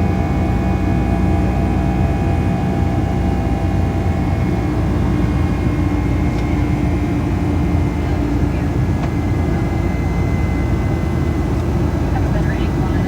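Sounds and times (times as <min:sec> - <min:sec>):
jet engine and airflow rumble: 0:00.0 - 0:13.0.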